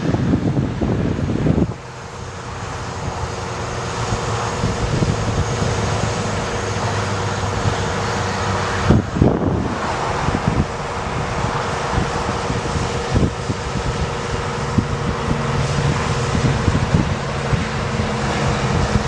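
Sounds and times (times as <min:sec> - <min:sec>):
truck engine running: 0:00.0 - 0:19.0
wind buffeting microphone: 0:00.0 - 0:19.0.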